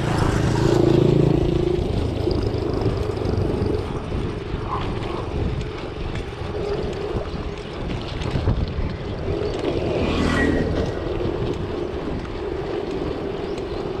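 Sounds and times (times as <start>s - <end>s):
bicycle road noise: 0.0s - 14.0s
wind noise on microphone: 0.0s - 14.0s.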